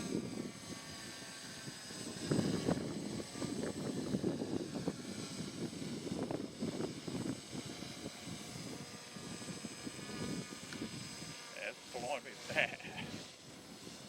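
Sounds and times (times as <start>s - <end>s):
drone motors whining: 0.0s - 14.0s
wind buffeting microphone: 0.0s - 14.0s.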